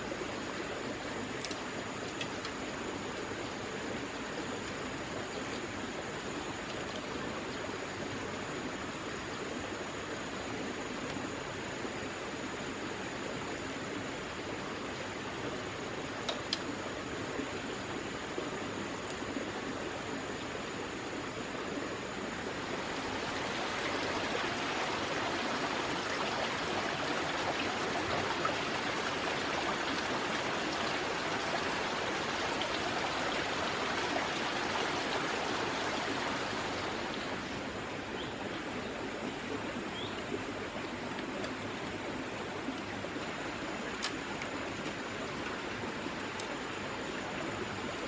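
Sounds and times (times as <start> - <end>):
running water: 0.0 - 48.0.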